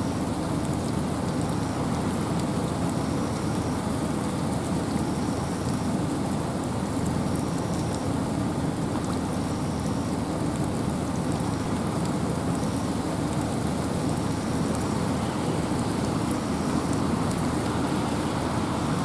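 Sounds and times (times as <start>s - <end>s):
steady rain hiss: 0.0s - 19.0s
raindrop ticks: 0.4s - 6.2s, 6.8s - 19.0s.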